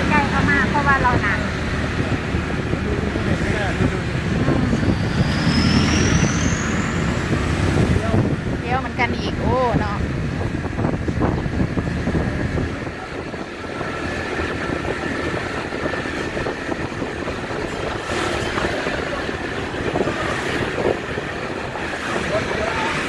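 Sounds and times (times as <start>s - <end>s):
road noise: 0.0s - 23.0s
scooter engine running: 0.0s - 23.0s.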